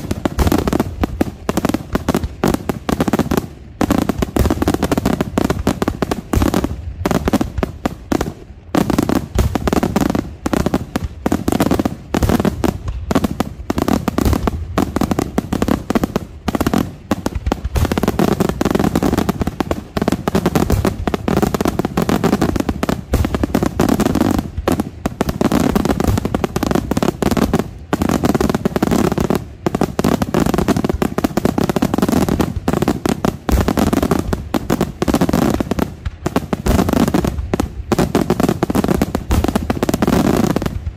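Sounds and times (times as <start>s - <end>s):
fireworks bursting with loud bangs: 0.0s - 40.9s.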